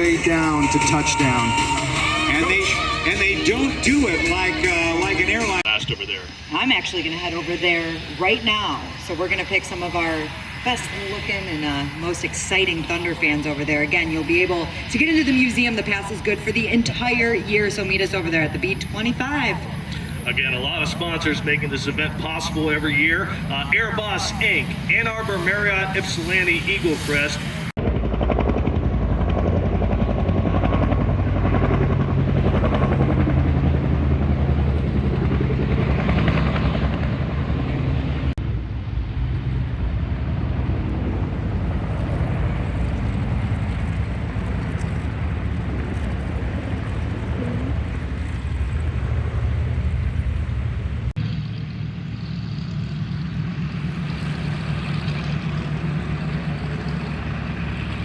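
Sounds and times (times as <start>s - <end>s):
aircraft engine droning: 0.0s - 58.0s.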